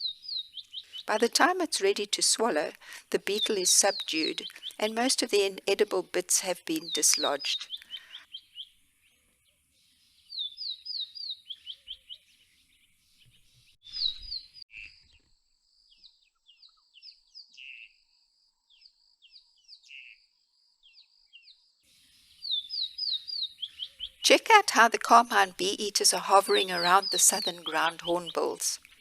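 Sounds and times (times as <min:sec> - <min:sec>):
birds chirping: 0:00.0 - 0:15.2, 0:20.8 - 0:29.0.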